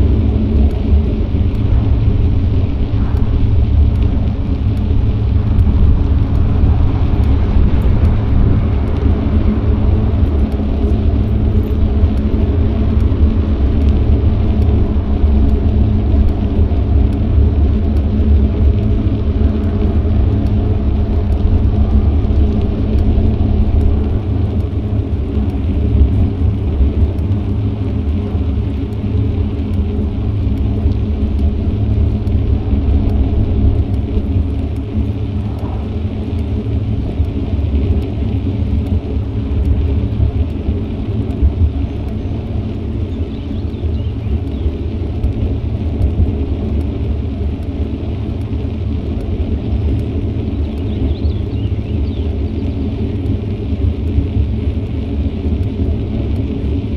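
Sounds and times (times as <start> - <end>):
road and tyre noise: 0.0 - 56.9
wind buffeting microphone: 0.0 - 56.9.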